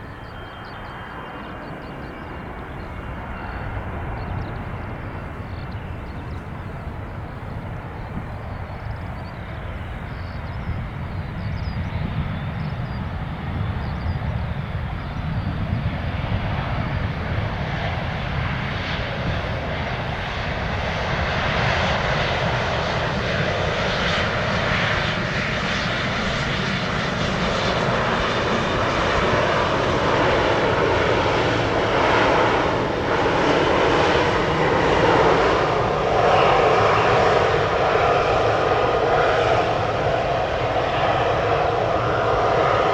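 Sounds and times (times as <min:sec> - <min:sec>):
jet engines rumble and hiss: 0:00.0 - 0:42.9.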